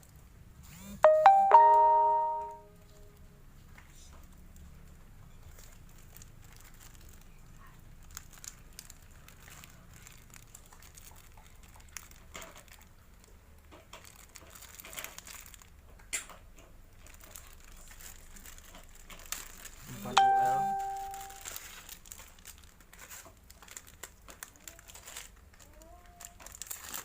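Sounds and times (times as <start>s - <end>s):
small clicks and crackles: 2.9s - 20.0s, 20.7s - 27.0s
plastic packaging crinkling: 5.2s - 27.0s.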